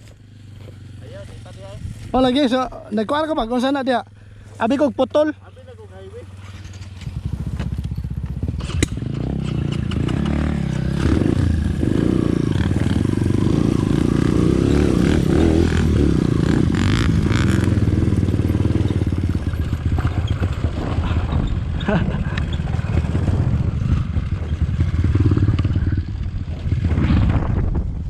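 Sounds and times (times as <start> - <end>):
motorcycle engine running: 0.0 - 28.0
motorcycle rattling: 0.0 - 28.0.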